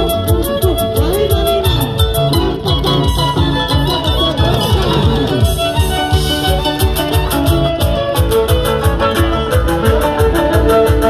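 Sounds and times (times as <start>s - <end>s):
quick drum beat: 0.0s - 11.0s
sustained melody notes: 0.0s - 11.0s.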